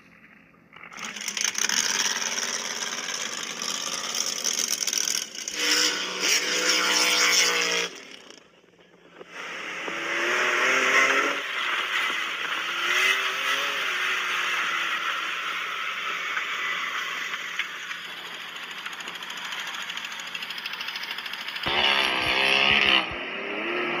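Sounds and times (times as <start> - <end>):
utv engine accelerating: 0.7 - 24.0.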